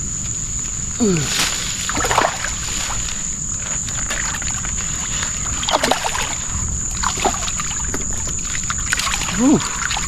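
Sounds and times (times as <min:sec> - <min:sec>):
low wind rumble: 0:00.0 - 0:10.0
water lapping around paddleboard: 0:01.8 - 0:10.0.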